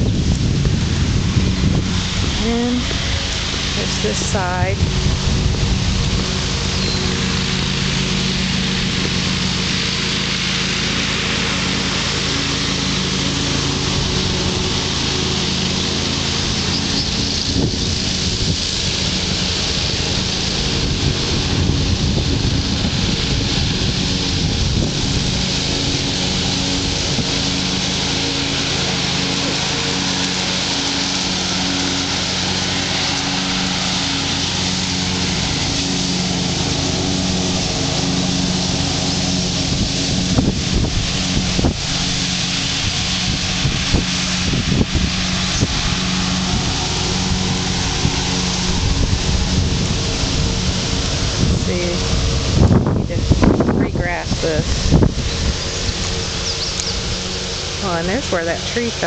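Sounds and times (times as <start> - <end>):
wind buffeting microphone: 0.0 - 9.4, 13.8 - 30.1, 31.2 - 59.0
low mechanical hum: 0.0 - 10.5, 11.4 - 59.0.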